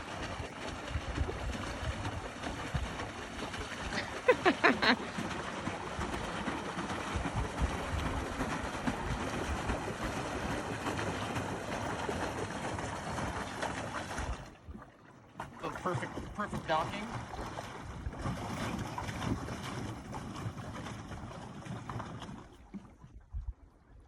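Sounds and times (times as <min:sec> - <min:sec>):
wind and water rushing: 0:00.0 - 0:24.0.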